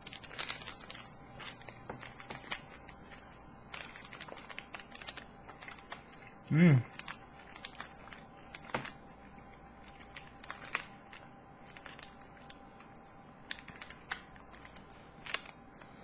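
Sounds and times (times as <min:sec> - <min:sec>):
candy strip clicks and crackles: 0:00.0 - 0:16.0.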